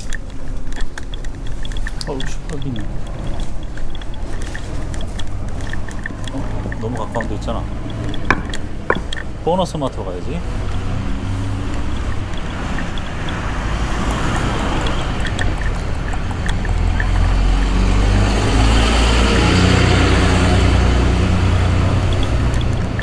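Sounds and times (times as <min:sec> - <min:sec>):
small clicks and rattles: 0:00.0 - 0:23.0
small wheels rumbling on pavement: 0:00.0 - 0:23.0.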